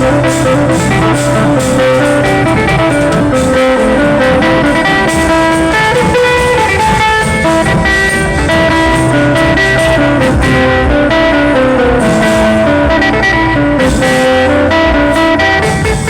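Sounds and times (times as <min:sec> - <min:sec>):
plucked string instrument music: 0:00.0 - 0:16.0.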